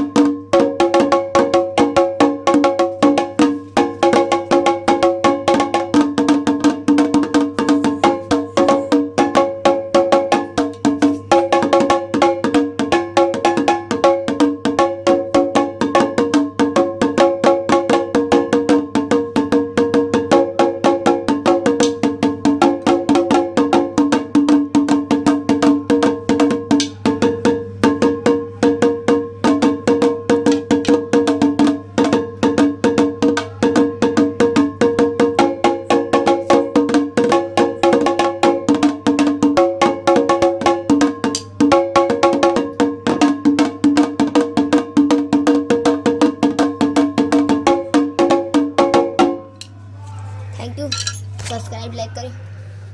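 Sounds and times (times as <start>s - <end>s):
kettledrum beaten with sticks: 0.0s - 49.7s.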